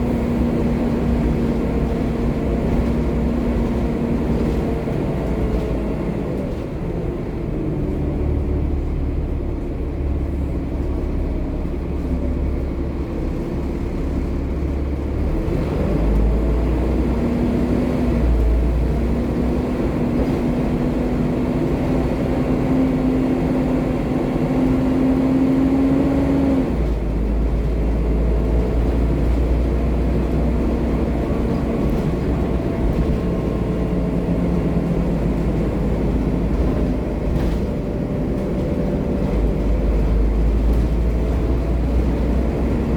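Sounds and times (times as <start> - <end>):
bus diesel engine rumble: 0.0 - 42.9.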